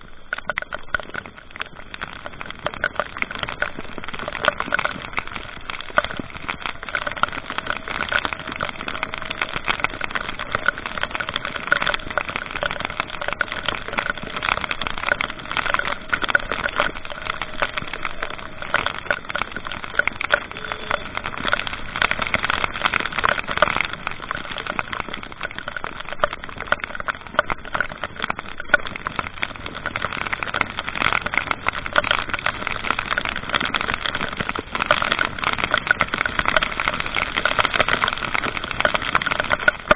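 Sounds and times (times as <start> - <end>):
dense continuous crackling: 0.0 - 39.9.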